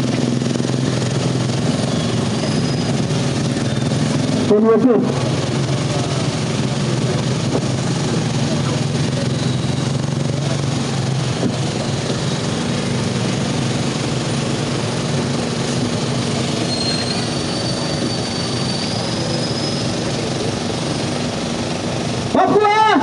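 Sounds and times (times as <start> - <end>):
crowd din: 2.2 - 23.0.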